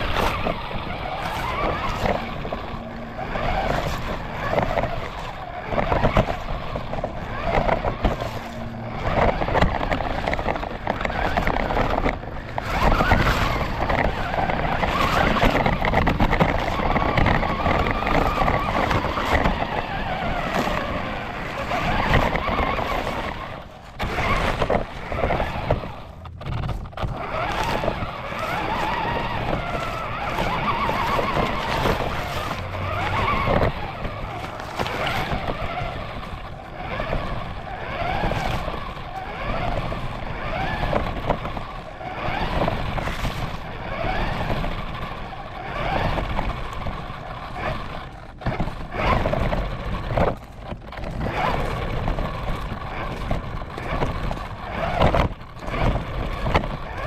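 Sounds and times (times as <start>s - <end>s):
rc car motor whine: 0.0s - 57.0s
rumble of wheels on ground: 0.0s - 57.0s.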